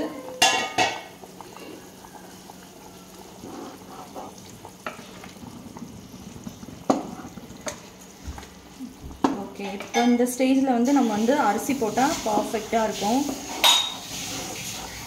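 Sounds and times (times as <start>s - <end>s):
pot bubbling at a boil: 0.0s - 15.0s.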